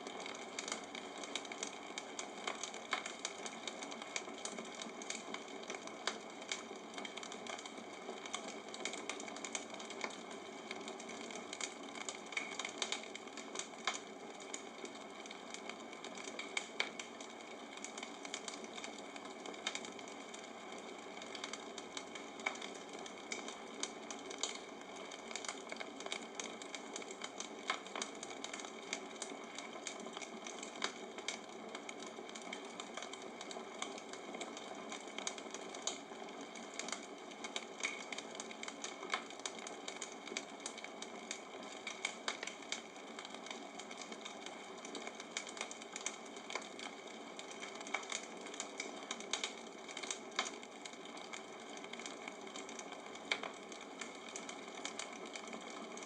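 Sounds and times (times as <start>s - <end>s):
fire pops and snaps: 0.1s - 20.4s, 21.2s - 56.0s.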